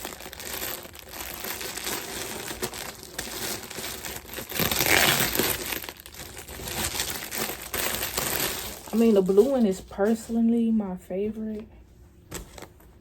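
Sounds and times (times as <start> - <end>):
packaging crinkling and rustling: 0.0 - 10.5, 12.3 - 13.0.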